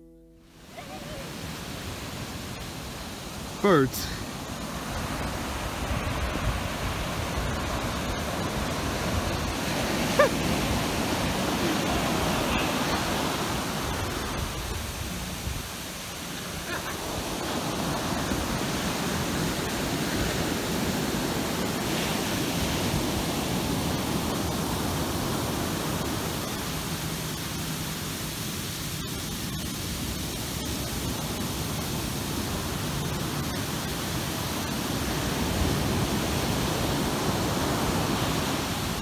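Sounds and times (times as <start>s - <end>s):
ocean surf: 0.0s - 39.0s.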